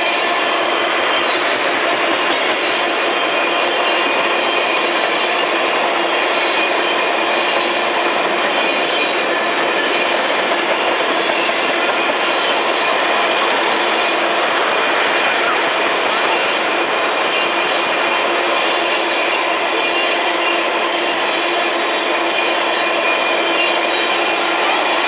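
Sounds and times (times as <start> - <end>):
high wheel squeal: 0.0 - 25.0
train wheels on rails: 0.0 - 25.0.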